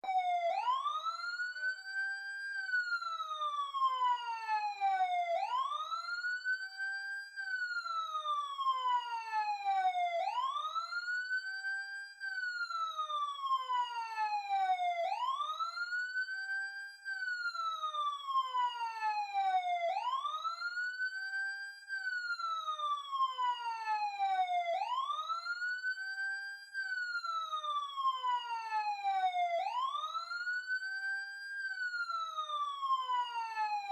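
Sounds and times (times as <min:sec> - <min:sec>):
ambulance siren wailing: 0:00.0 - 0:33.9.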